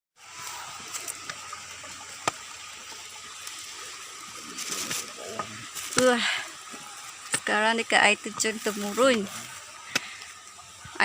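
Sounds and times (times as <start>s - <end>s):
steady rushing hiss: 0.2s - 11.0s.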